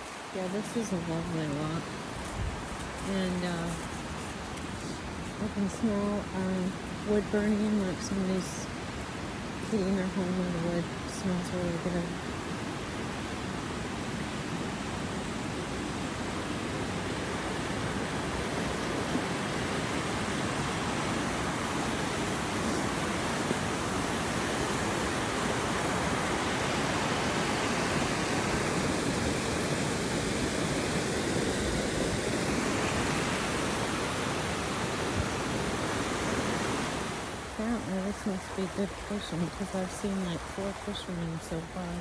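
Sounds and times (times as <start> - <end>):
water rushing: 0.0 - 42.0.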